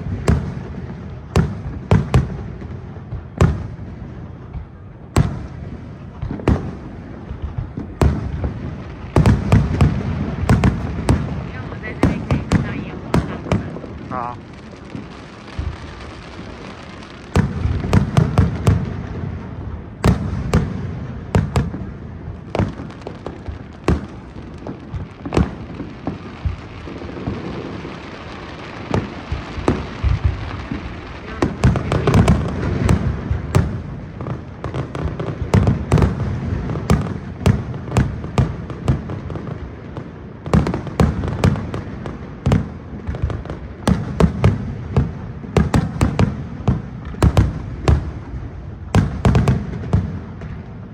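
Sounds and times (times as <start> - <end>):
fireworks bangs and cracks: 0.0 - 50.9.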